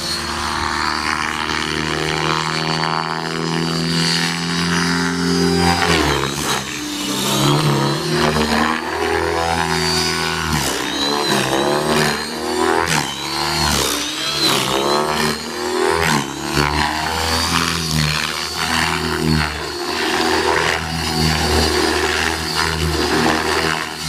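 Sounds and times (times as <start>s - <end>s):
high motor whine: 0.0s - 24.0s
rc helicopter rotor and motor: 0.0s - 24.0s.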